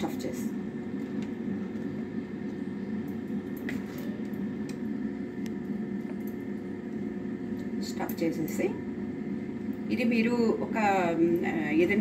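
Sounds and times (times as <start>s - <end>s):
air fryer fan hum: 0.0s - 12.0s.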